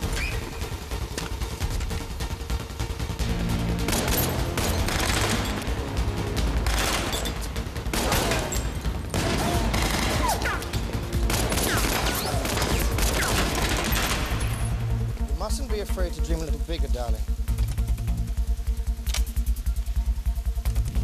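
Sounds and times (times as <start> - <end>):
film music score: 0.0 - 21.0.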